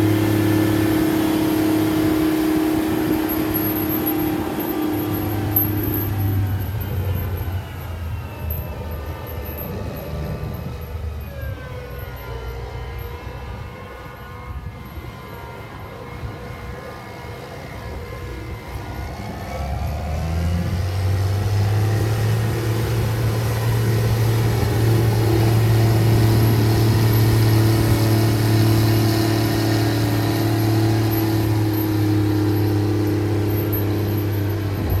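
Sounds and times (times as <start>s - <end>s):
tractor diesel engine: 0.0s - 35.0s.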